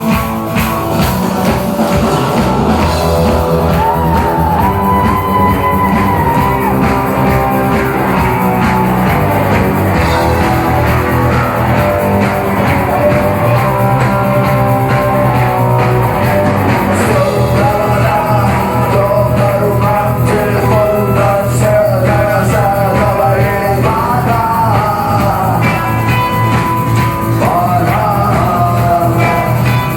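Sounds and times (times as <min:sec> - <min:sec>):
bass line: 0:00.0 - 0:29.9
drum beat: 0:00.0 - 0:29.9.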